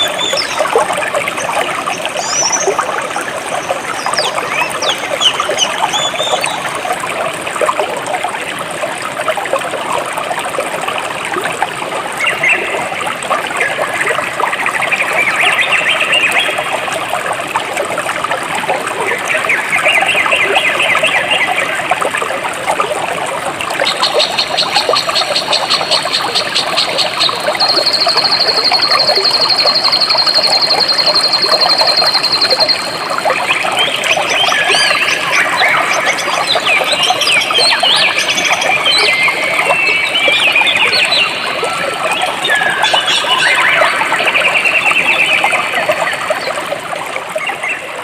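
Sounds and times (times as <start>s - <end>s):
stream trickling over rocks: 0.0s - 48.0s.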